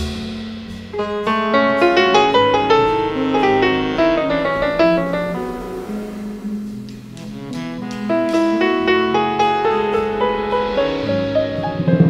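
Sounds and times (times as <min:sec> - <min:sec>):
jazz group melody: 0:00.0 - 0:12.0
low bass line: 0:00.0 - 0:12.0.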